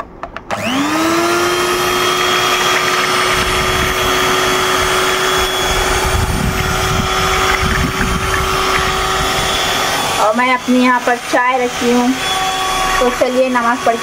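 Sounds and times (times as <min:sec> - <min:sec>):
electric hand mixer whining: 0:00.5 - 0:14.0.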